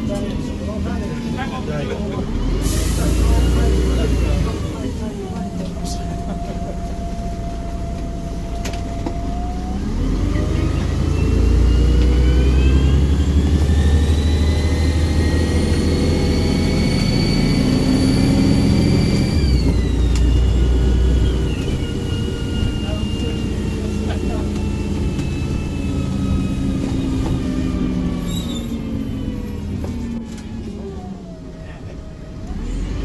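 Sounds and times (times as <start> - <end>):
bus diesel engine pulling away: 0.0 - 33.0.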